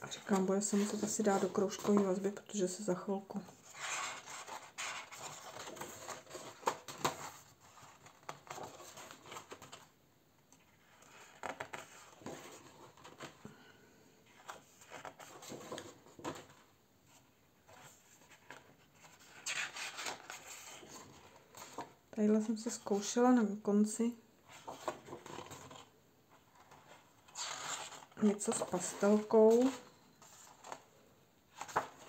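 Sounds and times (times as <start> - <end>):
paper pages rustling: 0.1 - 2.2, 3.6 - 9.9, 10.6 - 13.5, 14.3 - 22.0, 24.4 - 30.9, 31.5 - 32.0.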